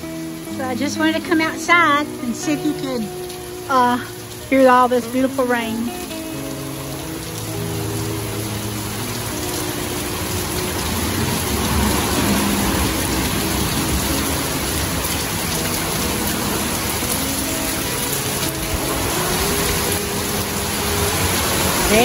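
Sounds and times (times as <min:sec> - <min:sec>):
heavy rain on grass and trees: 0:00.0 - 0:22.0.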